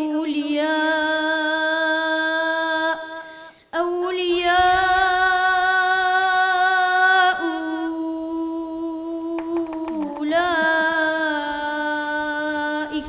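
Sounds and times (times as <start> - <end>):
boy reciting melodically: 0.0 - 13.0.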